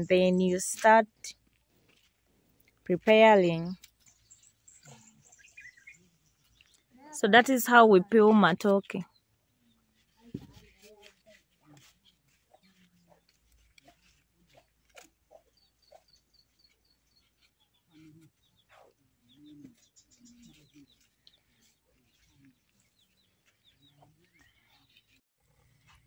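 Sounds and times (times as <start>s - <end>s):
small birds chirping: 0.0s - 25.2s.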